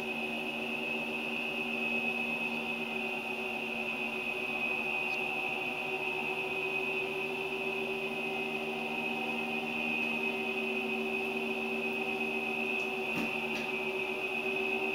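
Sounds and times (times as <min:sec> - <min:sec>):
machine hum with high whine: 0:00.0 - 0:14.9.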